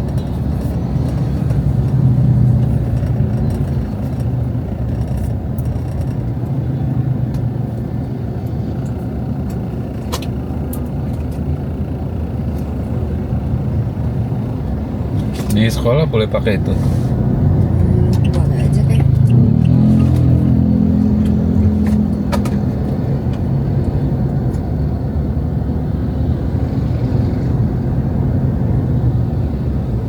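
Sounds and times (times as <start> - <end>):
vehicle engine rumble and road noise: 0.0 - 30.0.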